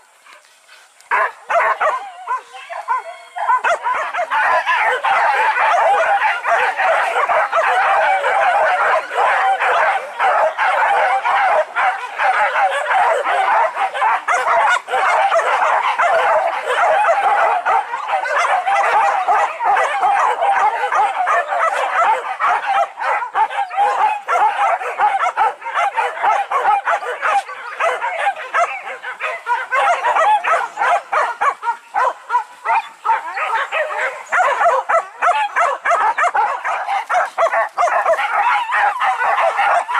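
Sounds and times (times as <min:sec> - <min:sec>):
dogs barking and yelping: 0:00.2 - 0:39.9.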